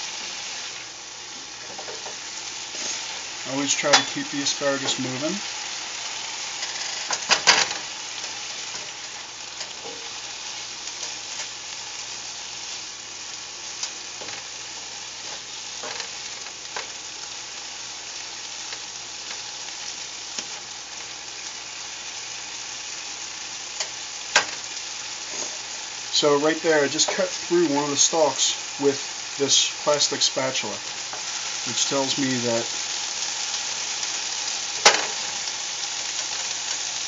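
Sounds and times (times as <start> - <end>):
vegetables sizzling in skillet: 0.0 - 37.0.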